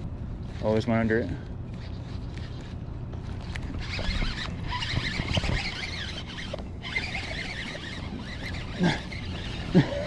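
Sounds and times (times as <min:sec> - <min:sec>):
fishing reel whirring: 0:00.0 - 0:10.0.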